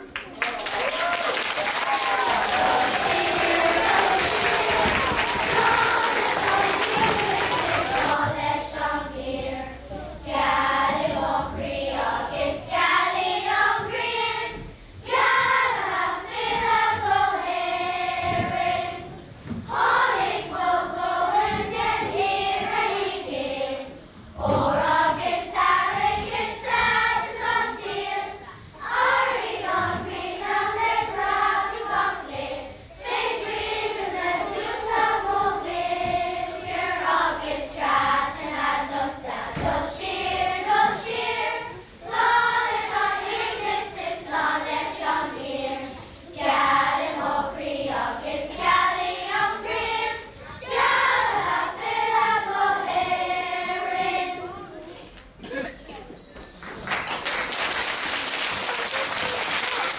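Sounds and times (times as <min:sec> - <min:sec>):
children's choir singing: 0:01.4 - 0:55.6.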